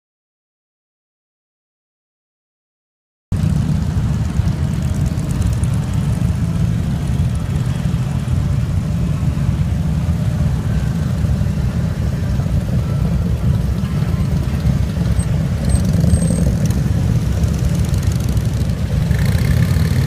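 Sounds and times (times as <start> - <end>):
motorcycles riding past: 3.3 - 20.0.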